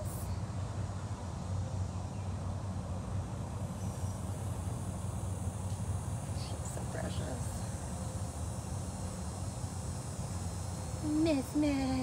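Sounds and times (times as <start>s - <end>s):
outdoor background hum: 0.0s - 12.0s.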